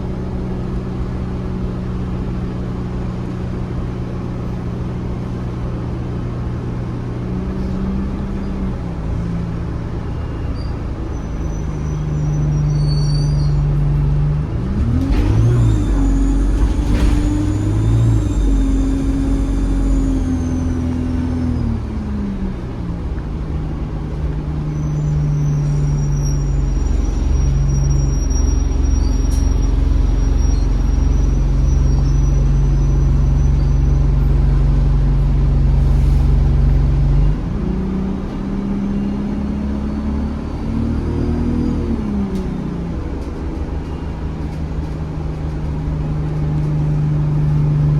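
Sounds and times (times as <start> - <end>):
bus diesel engine: 0.0 - 47.9.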